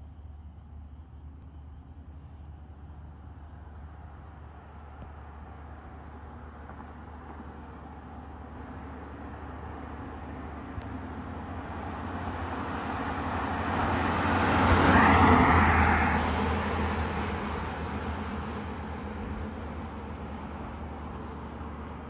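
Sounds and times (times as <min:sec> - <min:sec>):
truck driving past: 0:00.0 - 0:22.0.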